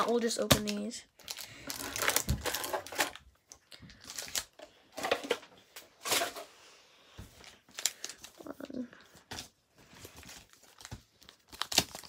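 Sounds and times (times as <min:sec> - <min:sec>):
foil packs crinkling: 0:00.0 - 0:05.4, 0:07.4 - 0:12.0.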